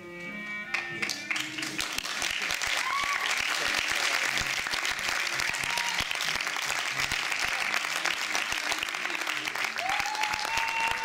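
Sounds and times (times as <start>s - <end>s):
audience clapping: 0.7s - 11.0s.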